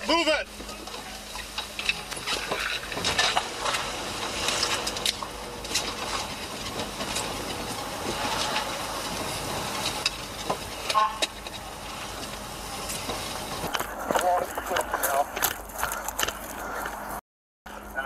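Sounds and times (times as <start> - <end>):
microphone hiss and rustling: 0.1 - 16.6.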